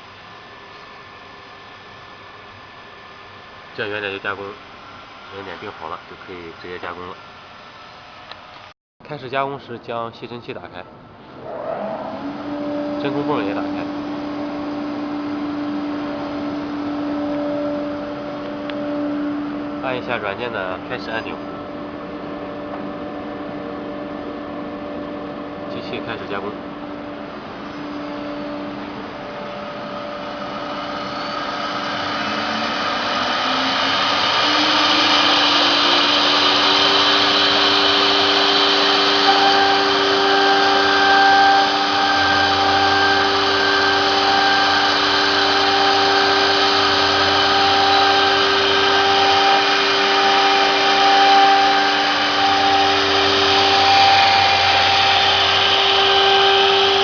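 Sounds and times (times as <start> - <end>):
dust collector and vacuum pump noise: 0.0 - 57.0
router spindle whine: 11.3 - 57.0.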